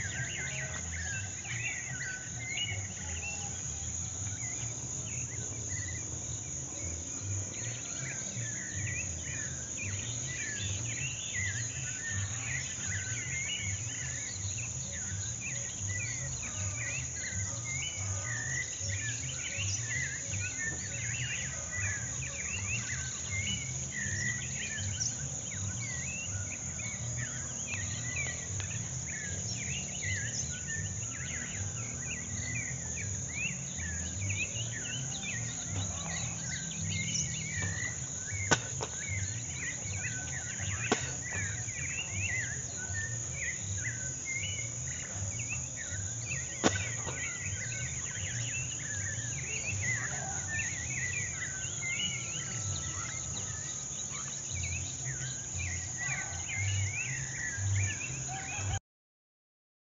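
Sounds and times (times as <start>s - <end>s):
high insect trill: 0.0s - 58.7s
small birds chirping: 6.8s - 58.8s.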